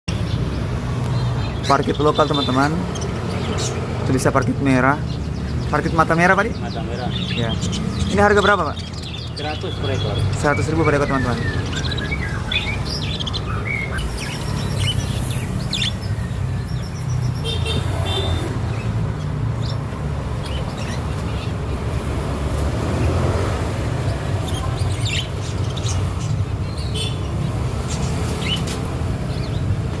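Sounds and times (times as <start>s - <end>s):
parakeets chirping: 0.1s - 30.0s.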